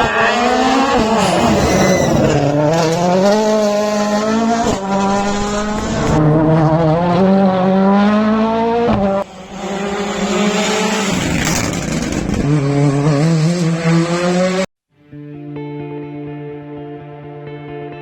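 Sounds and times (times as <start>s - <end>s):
rally car engine revving: 0.0s - 14.7s.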